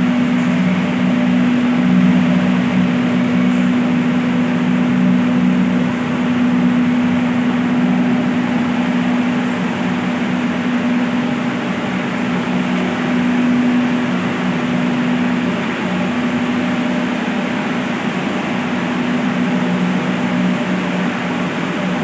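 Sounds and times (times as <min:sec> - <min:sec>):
electric water pumps humming: 0:00.0 - 0:22.0.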